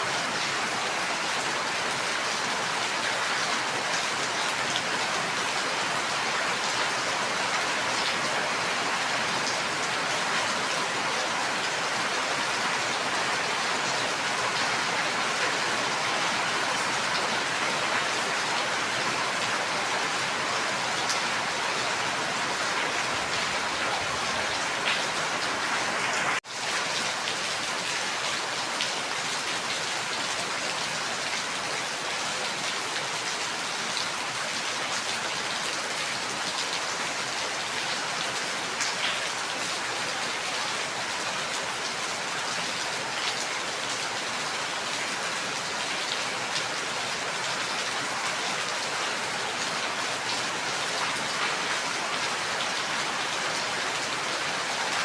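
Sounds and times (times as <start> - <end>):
dense rainfall: 0.0 - 55.0.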